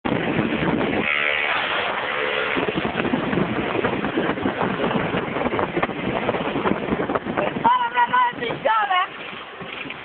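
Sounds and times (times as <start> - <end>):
wind rushing over microphone: 0.0 - 10.0
motorbike engines: 0.1 - 10.0.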